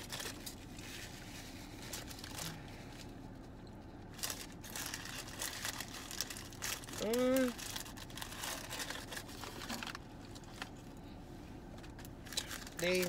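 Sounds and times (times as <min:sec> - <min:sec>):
foil wrappers crinkling: 0:00.0 - 0:03.2, 0:04.0 - 0:10.8, 0:11.8 - 0:13.0.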